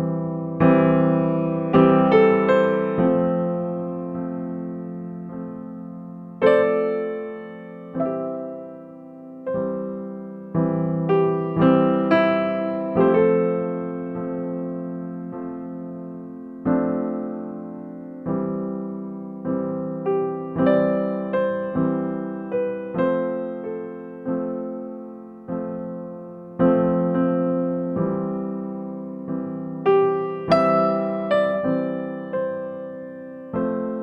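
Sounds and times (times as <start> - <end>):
slow piano piece: 0.0 - 34.0.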